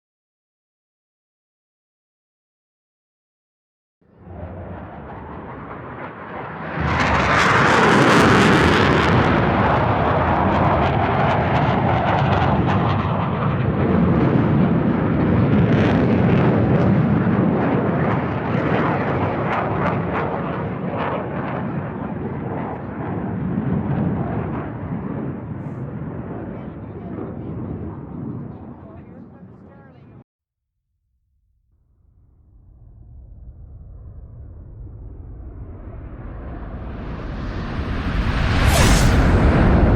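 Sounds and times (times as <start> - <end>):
fighter jet flying past: 4.1 - 30.2, 32.2 - 39.9.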